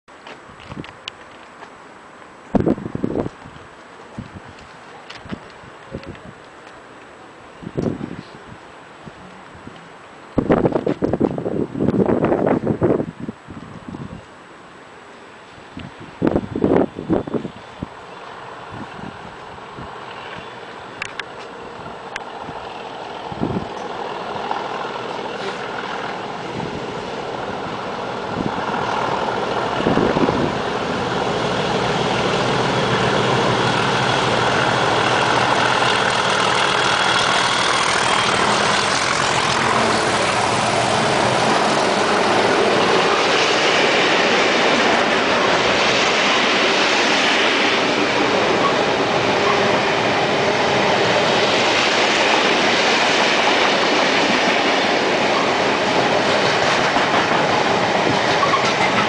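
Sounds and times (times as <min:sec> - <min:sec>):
diesel locomotive engines: 0:00.1 - 0:59.0.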